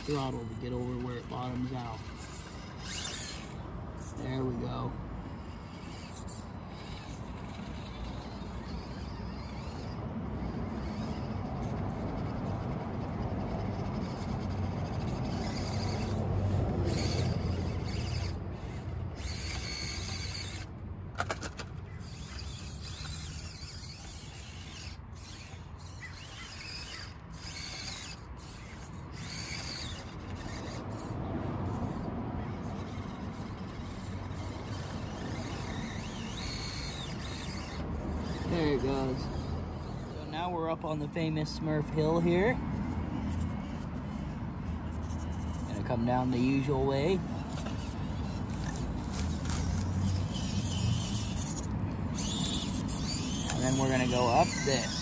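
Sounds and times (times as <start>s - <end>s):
electric motor and gears whining: 0.0s - 55.0s.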